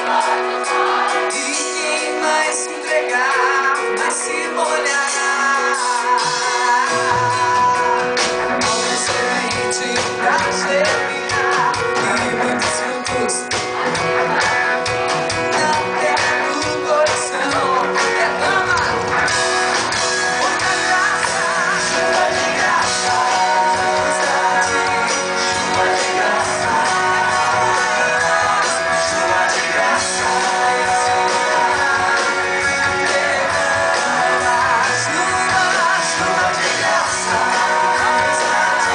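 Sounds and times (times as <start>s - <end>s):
live band music: 0.0s - 38.9s.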